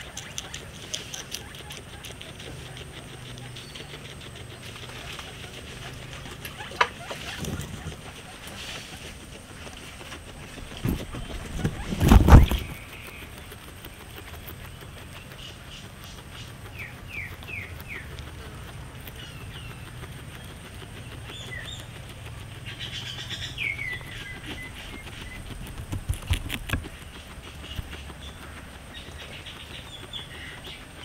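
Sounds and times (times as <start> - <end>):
clicks among grass stalks: 0.0 - 31.0
low steady hum: 0.0 - 31.0
small birds chirping: 0.0 - 31.0.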